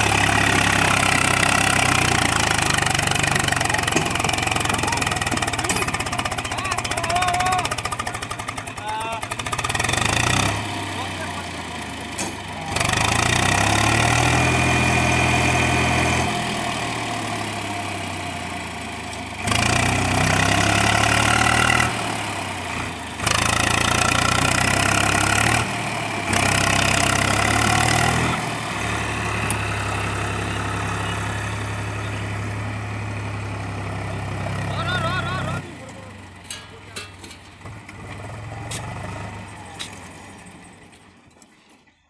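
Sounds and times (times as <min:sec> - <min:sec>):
diesel tractor engine revving: 0:00.0 - 0:41.6.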